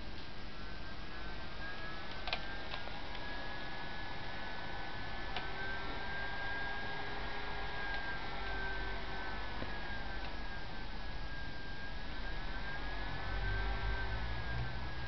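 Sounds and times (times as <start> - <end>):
electrical hum: 0.0 - 15.0
high whine of electronics: 0.0 - 15.0.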